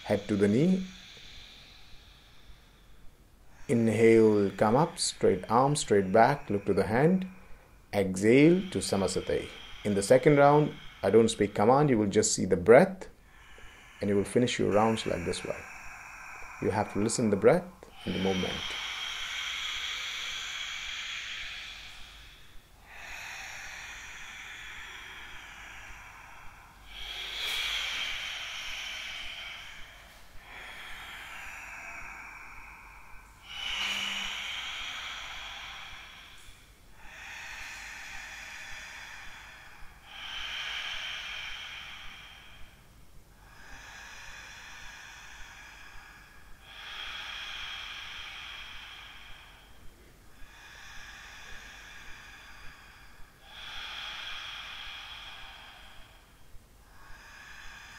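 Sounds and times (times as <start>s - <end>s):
deep hissing breaths: 0.0s - 57.9s.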